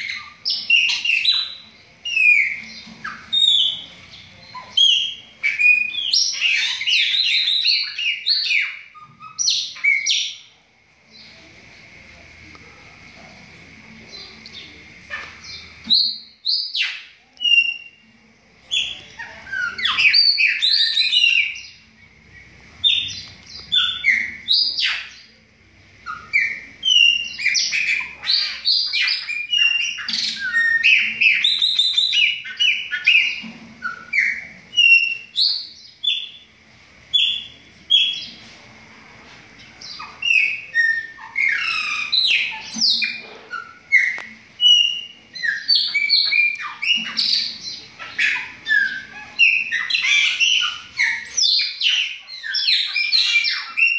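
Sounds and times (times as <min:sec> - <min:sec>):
blackbirds singing: 0:00.0 - 0:53.9.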